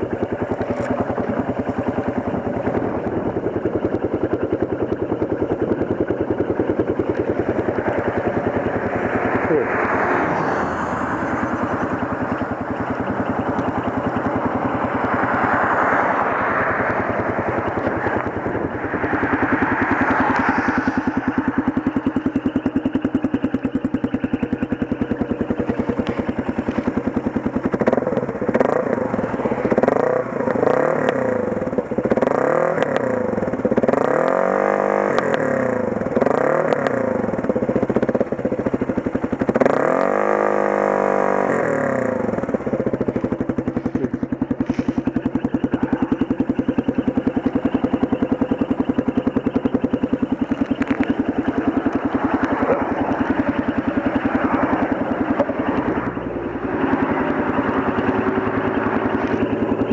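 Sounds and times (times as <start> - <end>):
motorcycle engine revving and idling: 0.0 - 59.9.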